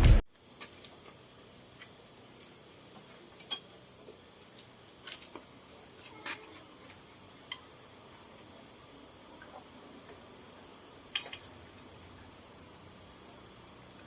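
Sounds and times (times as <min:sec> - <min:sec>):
crickets chirring: 0:00.3 - 0:14.0.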